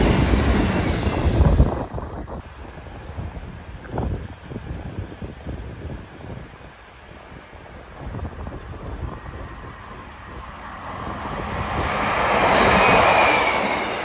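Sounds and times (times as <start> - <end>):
diesel train passing: 0.0 - 14.0
wind buffeting microphone: 0.0 - 14.0.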